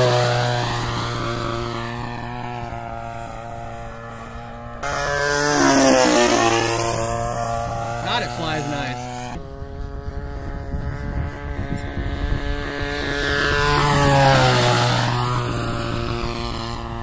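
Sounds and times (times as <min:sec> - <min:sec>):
model airplane engine passing by: 0:00.0 - 0:17.0.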